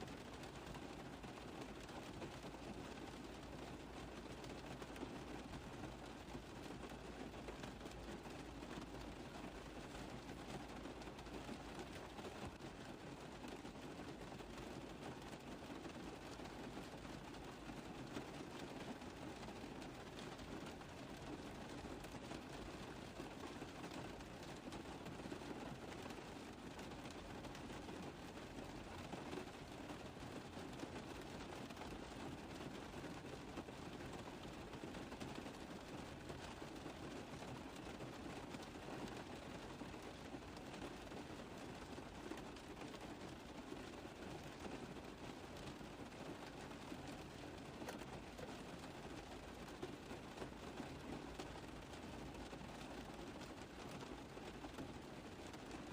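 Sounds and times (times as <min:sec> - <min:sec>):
rain tapping on a car roof: 0:00.0 - 0:55.9.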